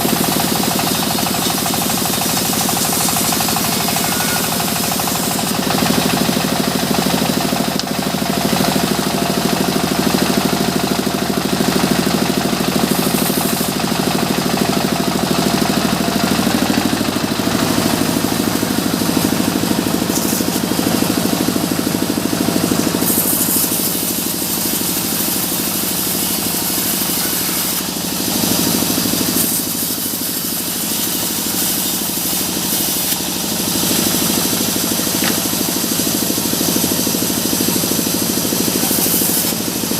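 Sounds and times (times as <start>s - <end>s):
sawmill engine throbbing: 0.0s - 39.9s.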